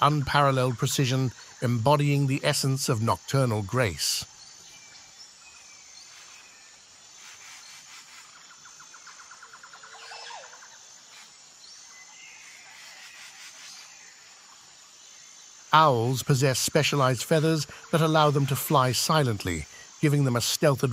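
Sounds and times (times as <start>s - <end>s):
high-pitched insect sound: 0.0s - 20.9s.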